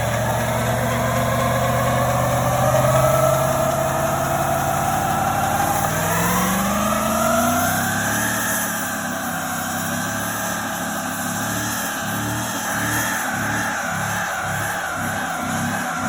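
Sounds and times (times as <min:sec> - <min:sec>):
truck engine accelerating: 0:00.0 - 0:16.0.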